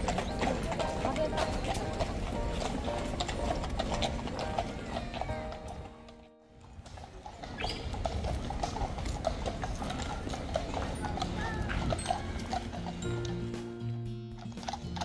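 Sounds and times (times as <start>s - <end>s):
horse hooves clip-clopping on road: 0.0s - 15.0s.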